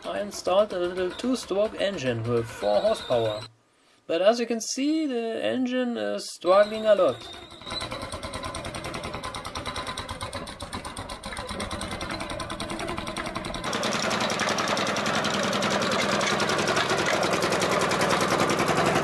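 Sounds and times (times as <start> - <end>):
two-stroke engine running: 0.0 - 3.5, 6.7 - 19.0.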